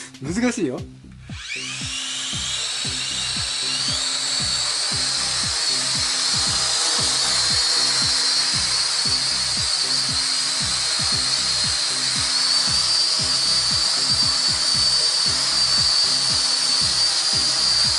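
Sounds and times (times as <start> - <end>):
music beat: 0.0 - 17.9
toy drone propellers whining: 1.2 - 17.9.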